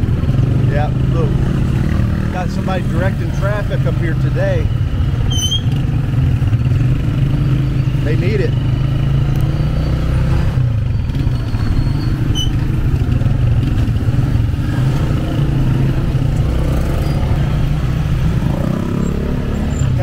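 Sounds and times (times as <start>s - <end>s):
motorcycle engine running: 0.0s - 9.9s, 10.6s - 20.0s.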